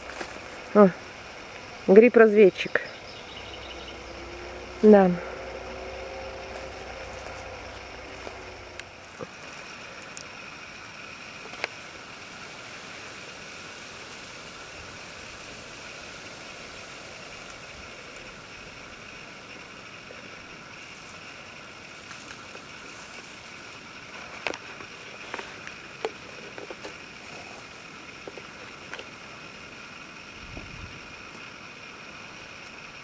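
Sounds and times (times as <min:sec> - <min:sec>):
forest background hiss: 0:00.0 - 0:33.0.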